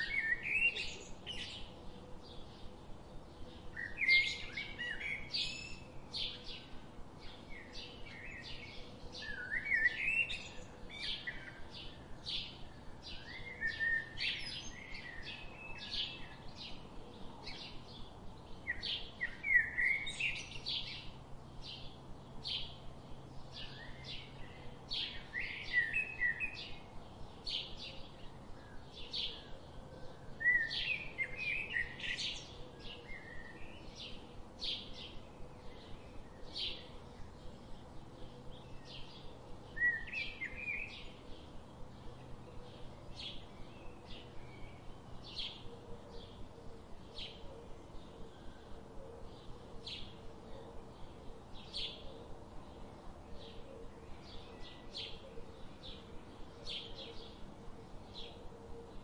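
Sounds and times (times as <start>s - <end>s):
bird song phrase: 0.0s - 59.0s.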